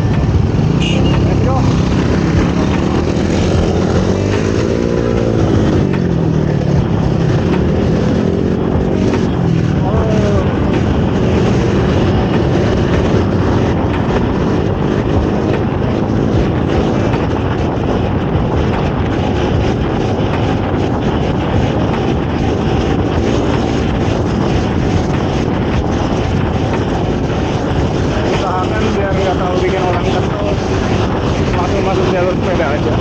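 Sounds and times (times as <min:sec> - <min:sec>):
street traffic: 0:00.0 - 0:33.0
wind rush on microphone: 0:00.0 - 0:33.0.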